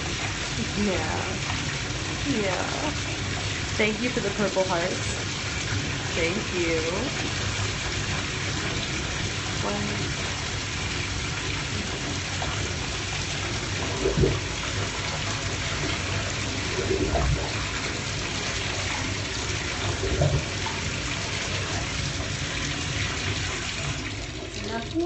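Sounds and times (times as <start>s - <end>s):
water running into bathtub: 0.0s - 25.0s.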